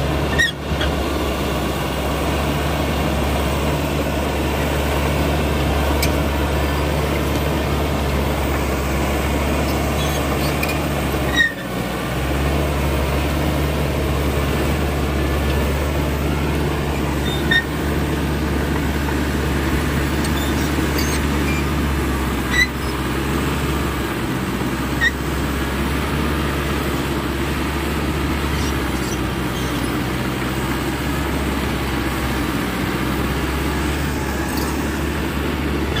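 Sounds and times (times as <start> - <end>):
bulldozer diesel engine under load: 0.0 - 36.0.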